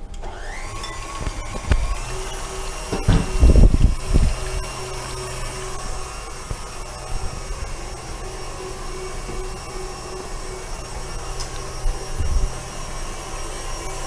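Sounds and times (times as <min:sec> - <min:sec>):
stand mixer whipping cream: 0:00.0 - 0:14.0.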